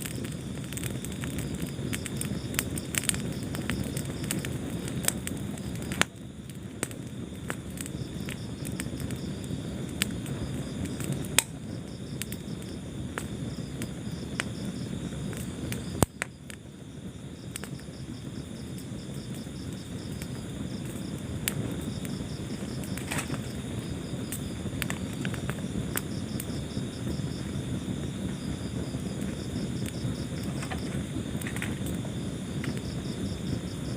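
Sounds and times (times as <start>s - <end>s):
loud sharp pops of fire: 0.0s - 33.9s
low steady rumble: 0.0s - 33.9s
wood fire crackling: 0.0s - 33.9s.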